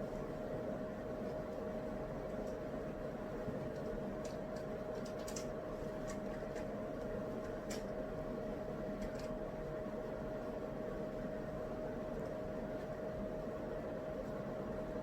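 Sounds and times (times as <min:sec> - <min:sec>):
white-noise hiss and hum: 0:00.0 - 0:15.0.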